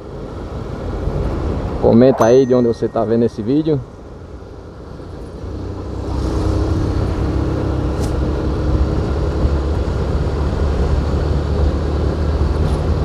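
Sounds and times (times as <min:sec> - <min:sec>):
vehicle engine and road noise: 0:00.0 - 0:02.2, 0:03.1 - 0:13.0.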